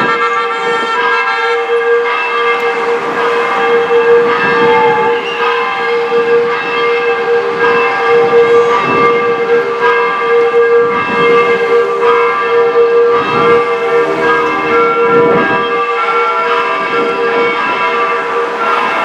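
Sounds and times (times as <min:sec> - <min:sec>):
bell-tower bells ringing: 0:00.0 - 0:19.0
low bell humming: 0:01.6 - 0:19.0.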